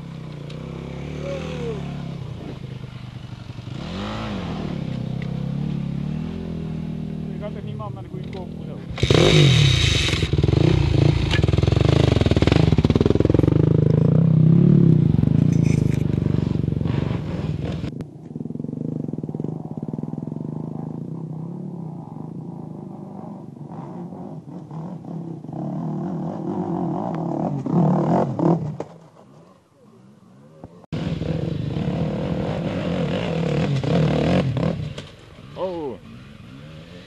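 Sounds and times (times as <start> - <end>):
dirt bike engine revving: 0.0 - 29.0, 31.0 - 37.0
quieter dirt bike engine: 0.0 - 37.0.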